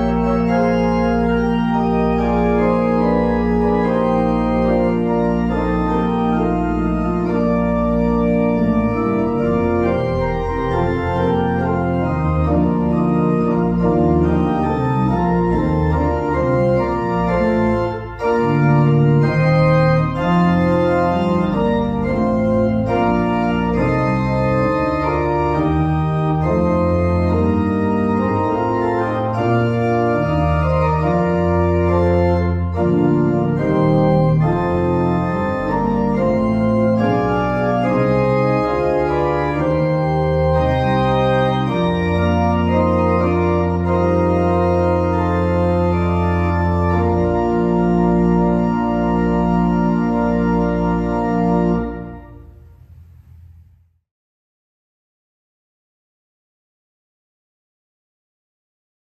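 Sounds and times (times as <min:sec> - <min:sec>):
organ playing chords: 0:00.0 - 0:53.9.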